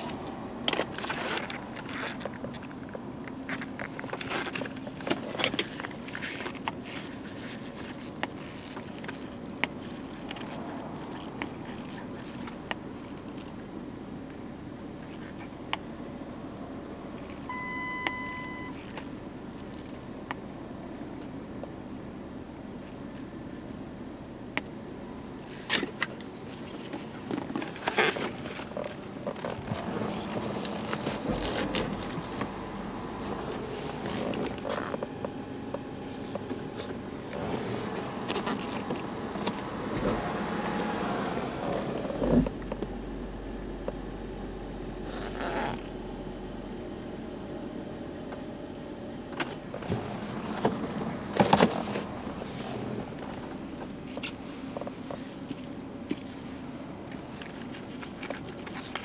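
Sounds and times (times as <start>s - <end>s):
vehicle engine hum: 0.0s - 59.0s.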